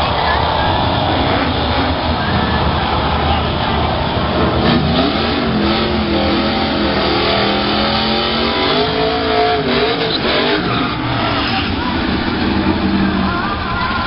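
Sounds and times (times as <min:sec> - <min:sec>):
car engine revving: 0:00.0 - 0:14.0
tyres spinning in a burnout: 0:00.0 - 0:14.0.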